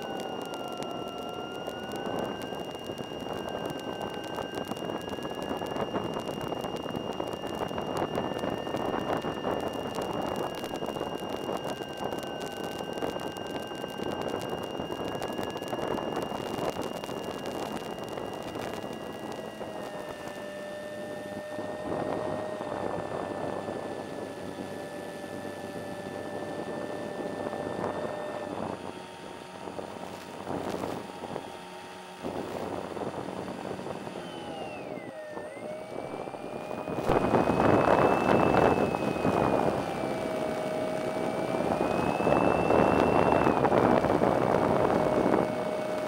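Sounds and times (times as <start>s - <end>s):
model plane motor whine: 0.0s - 46.0s.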